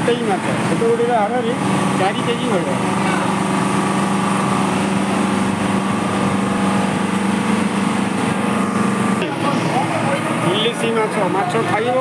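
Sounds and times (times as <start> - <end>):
small engine humming steadily: 0.0 - 12.0.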